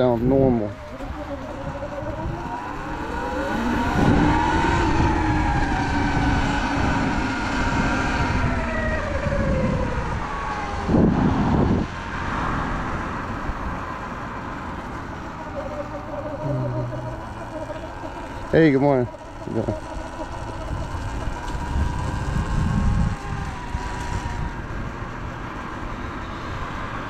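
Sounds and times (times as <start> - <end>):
electric motor and belt whining: 0.0 - 27.0.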